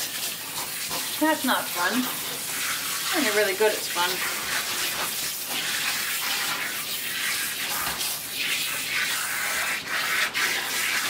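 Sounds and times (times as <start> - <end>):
shower sprayer water splashing: 0.0 - 11.0.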